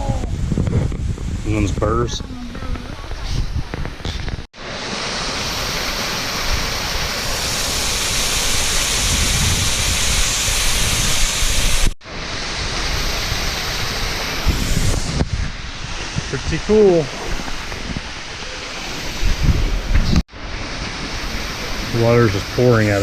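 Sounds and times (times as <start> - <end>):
wind rumbling on microphone: 0.0 - 4.5, 6.4 - 23.0
waterfall rushing: 4.6 - 23.0.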